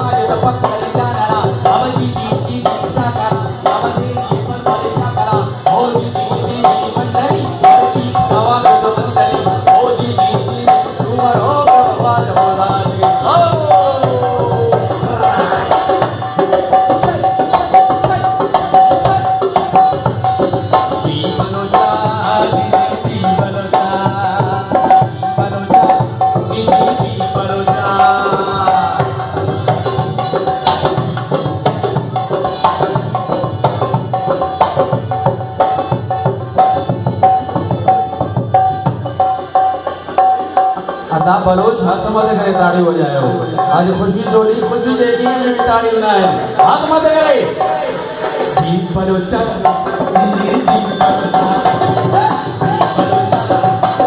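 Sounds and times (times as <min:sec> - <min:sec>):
person singing: 0:00.0 - 0:38.0, 0:43.5 - 0:54.0
hand drums: 0:00.0 - 0:54.0.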